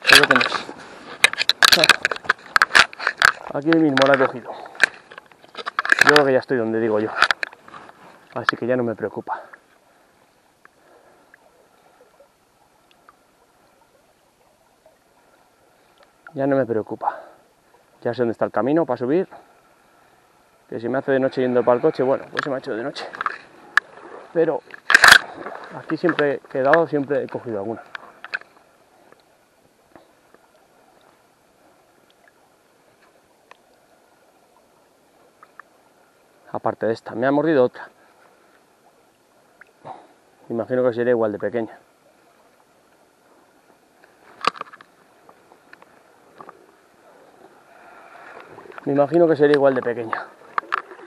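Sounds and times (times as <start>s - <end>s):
faint running river water: 0.0s - 51.0s.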